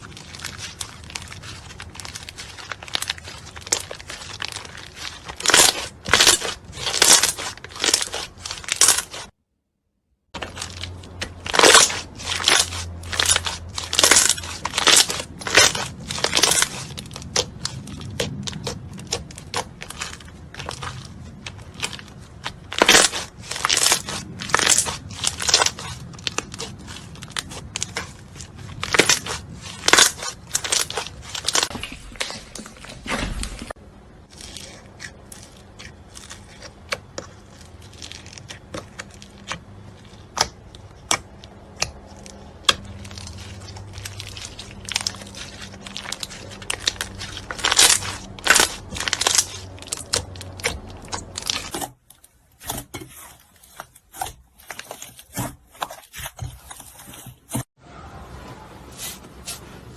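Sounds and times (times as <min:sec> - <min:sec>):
slime crackling and popping: 0:00.0 - 0:09.3, 0:10.3 - 0:32.9, 0:34.1 - 0:57.6
faint background hum: 0:10.4 - 0:59.9.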